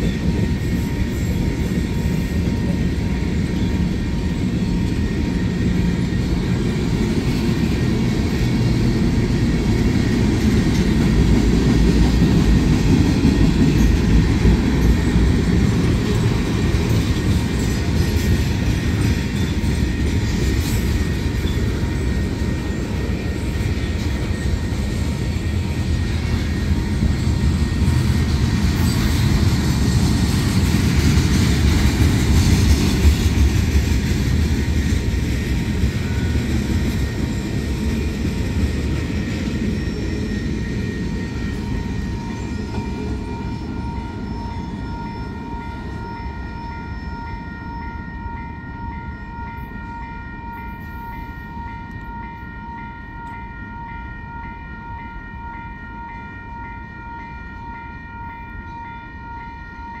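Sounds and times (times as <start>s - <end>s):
freight train cars rolling on rails: 0.0s - 60.0s
grade-crossing bell ringing: 0.0s - 60.0s.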